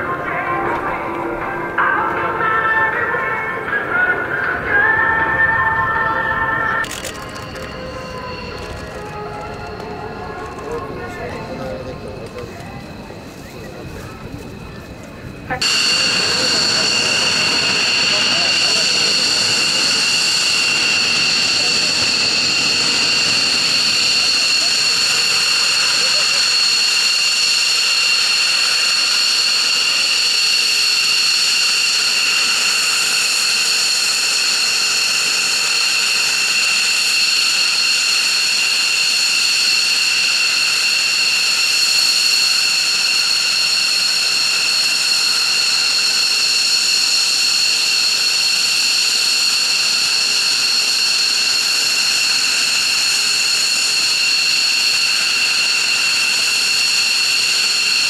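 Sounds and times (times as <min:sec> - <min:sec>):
jet engines idling whine: 0:00.0 - 0:58.0.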